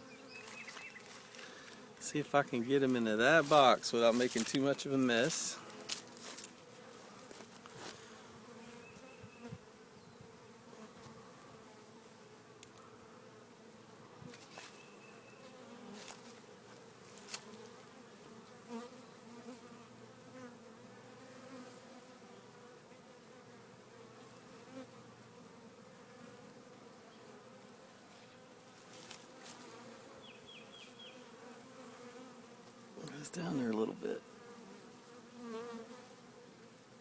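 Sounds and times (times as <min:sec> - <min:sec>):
bee swarm humming: 0:00.0 - 0:37.0.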